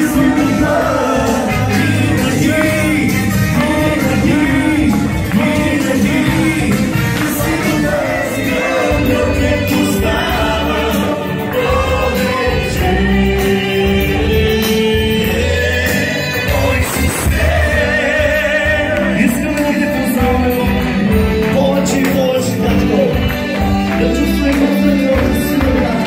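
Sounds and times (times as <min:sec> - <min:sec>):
group singing worship song: 0:00.0 - 0:21.2
music with steady beat: 0:00.0 - 0:26.0.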